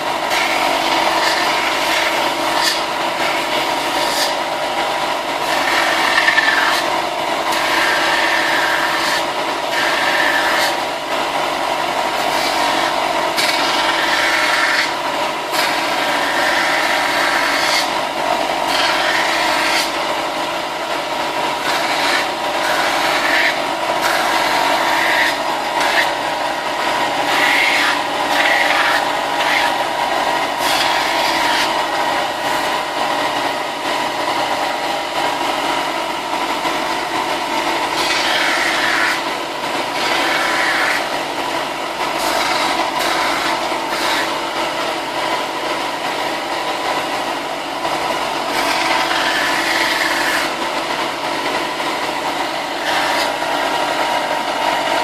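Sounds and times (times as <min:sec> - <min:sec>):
power sander sanding plastic: 0:00.0 - 0:55.0.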